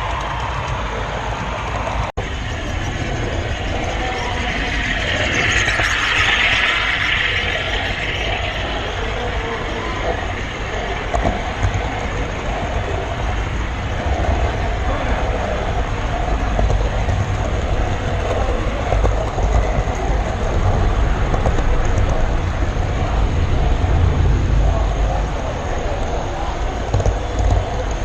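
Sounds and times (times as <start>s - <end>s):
model train wheels rumbling: 0.0s - 28.0s
rail joint clicks: 0.0s - 28.0s.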